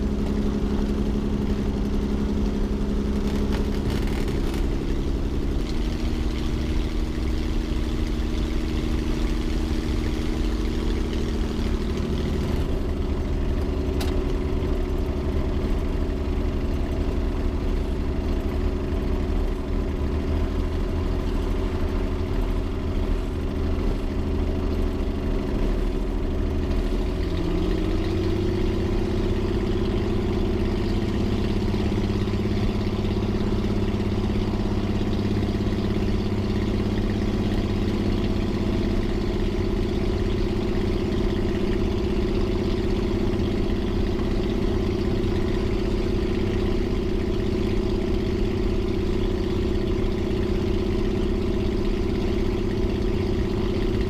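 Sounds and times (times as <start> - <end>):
aircraft engine idling: 0.0 - 54.0.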